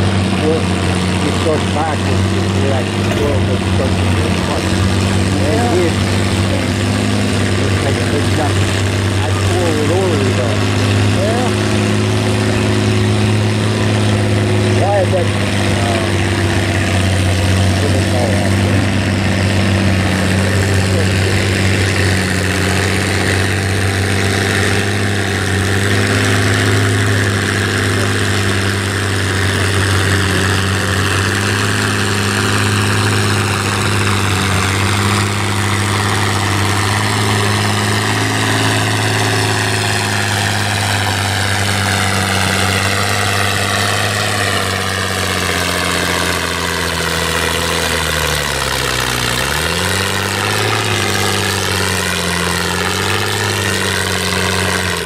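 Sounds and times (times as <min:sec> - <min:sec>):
tractor engines idling: 0:00.0 - 0:55.0.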